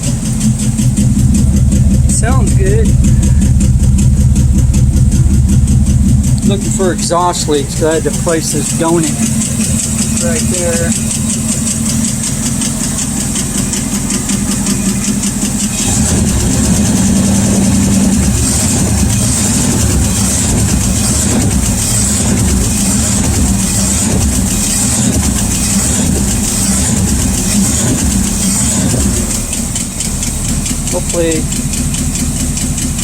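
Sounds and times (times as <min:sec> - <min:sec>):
engine idling with rapid tick: 0:00.0 - 0:33.0.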